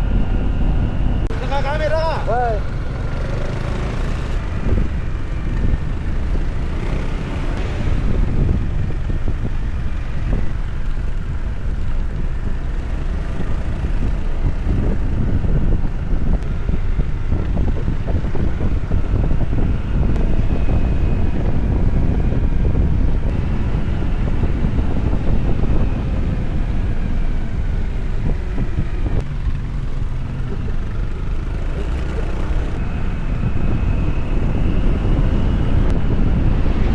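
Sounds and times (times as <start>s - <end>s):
motorcycle engine running: 0.0s - 36.9s
wind buffeting microphone: 0.0s - 36.9s.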